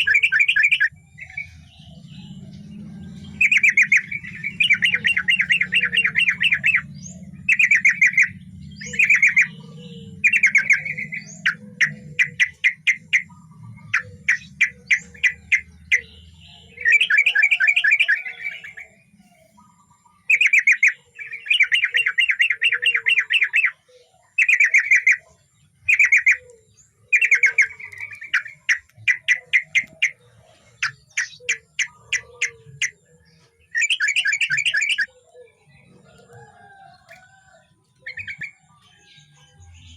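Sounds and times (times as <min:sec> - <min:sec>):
bird singing bubbly chirps: 0:00.0 - 0:39.9.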